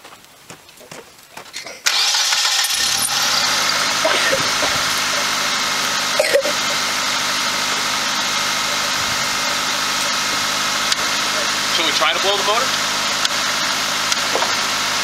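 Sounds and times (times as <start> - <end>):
car engine starting and idling: 1.9 - 15.0.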